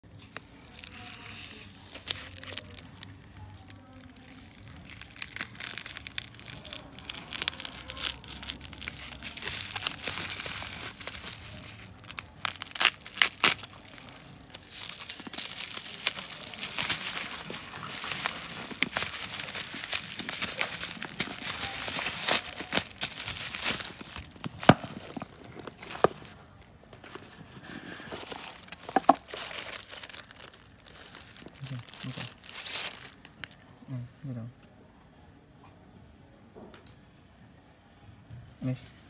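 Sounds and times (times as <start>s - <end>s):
plastic bag crinkling and tearing: 0.1s - 33.6s.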